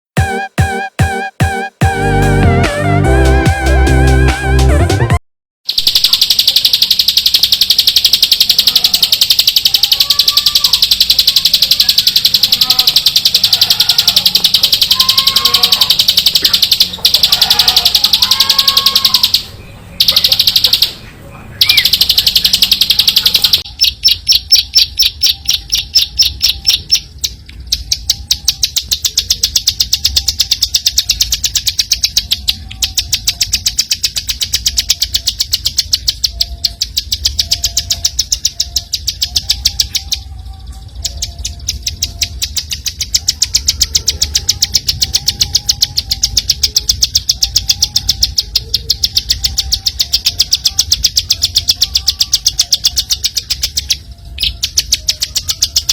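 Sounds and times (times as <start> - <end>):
bird singing high repeated notes: 5.6 - 55.9.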